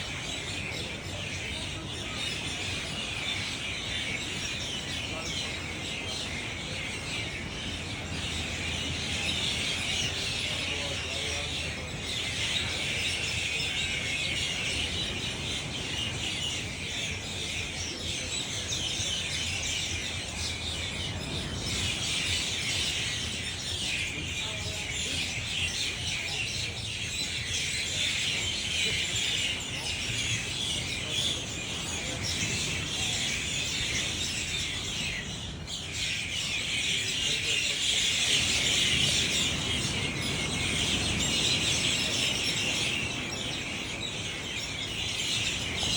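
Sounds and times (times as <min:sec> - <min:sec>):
bird calls: 0:00.0 - 0:45.9.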